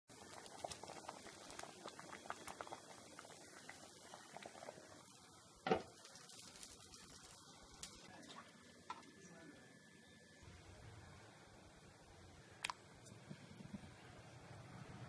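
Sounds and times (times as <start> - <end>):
pot simmering with popping bubbles: 0.1 - 9.2, 11.3 - 15.0.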